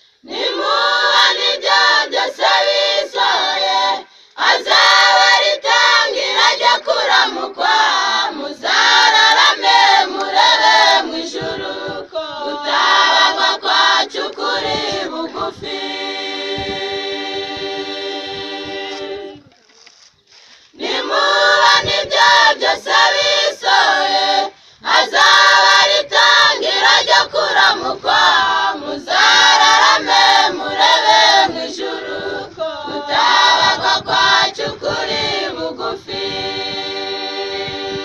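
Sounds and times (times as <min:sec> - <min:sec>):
mixed choir singing unaccompanied: 0:00.0 - 0:19.5, 0:20.7 - 0:38.0.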